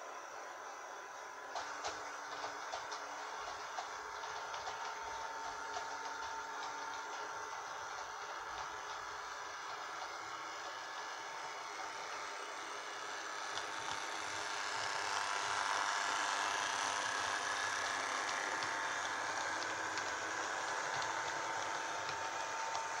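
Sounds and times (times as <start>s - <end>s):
model train motor whine: 1.0s - 23.0s.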